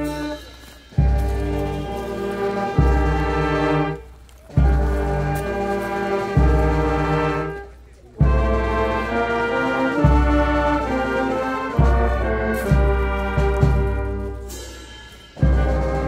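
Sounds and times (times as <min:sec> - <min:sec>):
brass band playing slow chords: 0:00.0 - 0:16.0.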